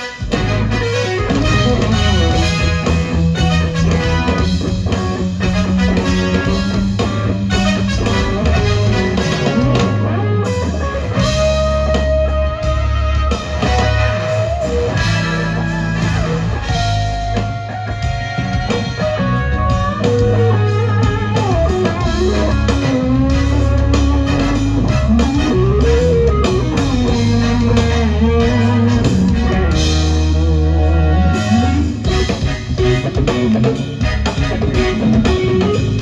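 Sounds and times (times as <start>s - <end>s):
bass guitar: 0.0s - 36.0s
drum kit: 0.0s - 36.0s
electric guitar solo: 0.0s - 36.0s.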